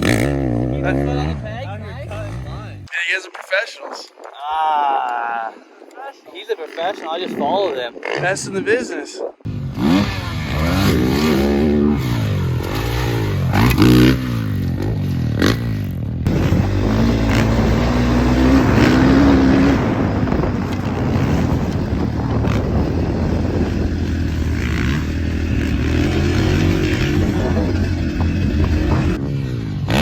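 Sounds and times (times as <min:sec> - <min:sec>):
dirt bike engines revving: 0:00.0 - 0:02.9, 0:04.3 - 0:30.0.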